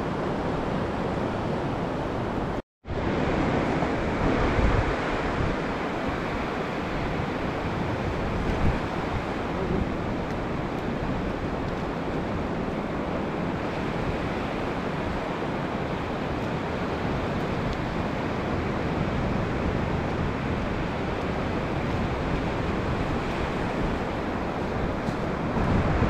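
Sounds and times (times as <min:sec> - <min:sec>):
wind buffeting microphone: 0:00.0 - 0:26.0
surf washing onto beach: 0:03.0 - 0:26.0.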